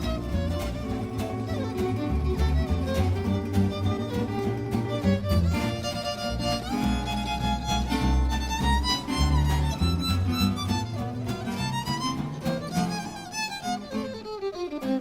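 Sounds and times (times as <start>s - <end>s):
walking bass line: 0.0s - 13.3s
guitars strumming: 0.0s - 15.0s
violin melody: 0.0s - 15.0s.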